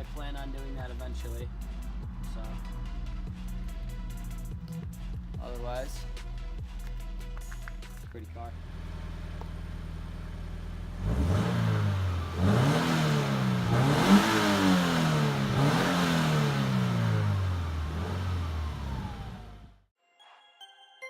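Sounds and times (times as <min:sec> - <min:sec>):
car engine revving: 0:00.0 - 0:19.8.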